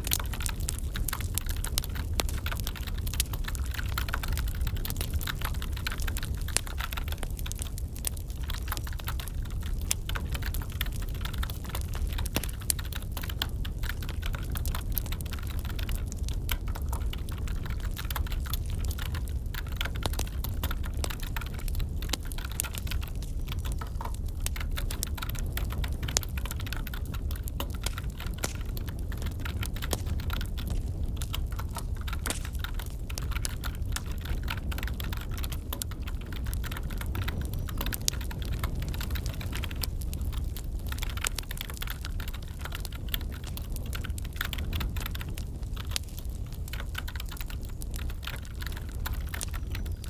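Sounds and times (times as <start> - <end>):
computer keyboard typing: 0.0 - 50.0
wood fire crackling and popping: 0.0 - 50.0.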